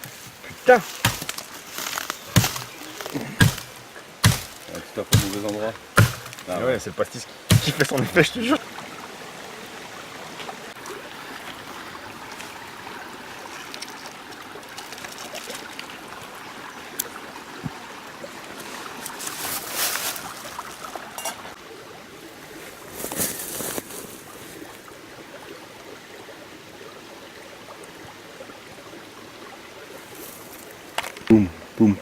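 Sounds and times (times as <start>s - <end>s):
stream water trickling: 0.0s - 32.0s.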